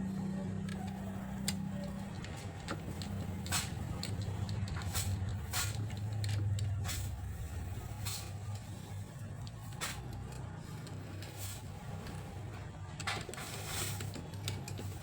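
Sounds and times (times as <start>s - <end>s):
steady low hum: 0.0s - 15.0s
metallic clicks and scrapes of tools: 0.6s - 15.0s.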